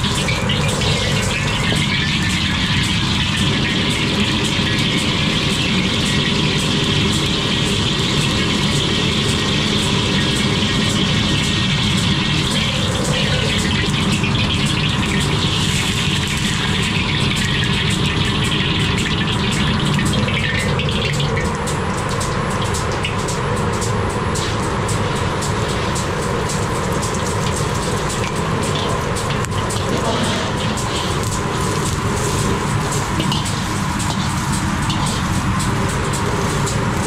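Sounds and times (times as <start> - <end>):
gas burner roaring: 0.0 - 37.0
ventilation running: 0.0 - 37.0.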